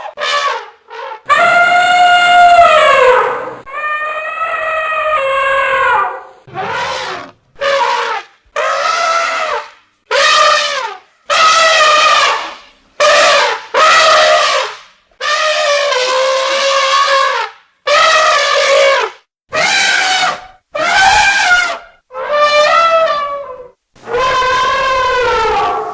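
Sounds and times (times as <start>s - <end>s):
elephant trumpeting: 0.1s - 25.9s.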